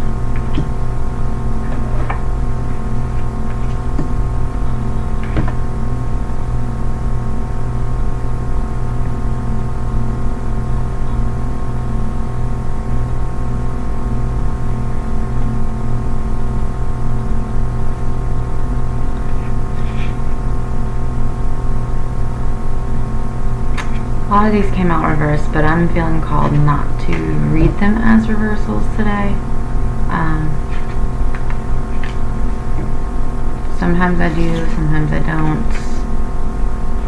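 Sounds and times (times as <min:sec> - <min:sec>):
droning hum of held tones: 0:00.0 - 0:37.0.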